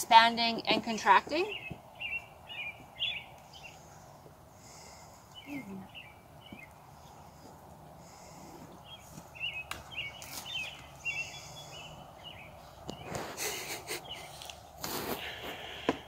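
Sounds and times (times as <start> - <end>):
outdoor background hiss: 0.0 - 16.0
small birds chirping: 0.4 - 15.9.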